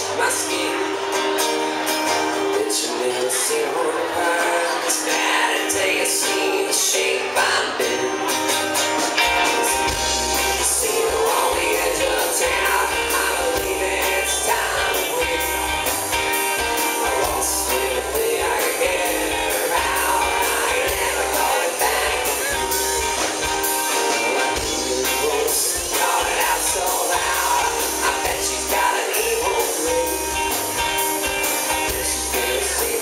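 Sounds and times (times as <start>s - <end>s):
man singing: 0.0s - 1.2s, 2.2s - 33.0s
acoustic guitar strumming: 0.0s - 33.0s
bass guitar: 0.0s - 33.0s
electric guitar: 0.0s - 33.0s.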